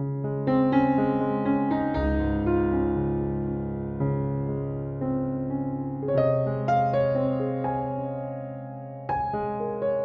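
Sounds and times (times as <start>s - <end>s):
slow gentle piano: 0.0s - 10.0s.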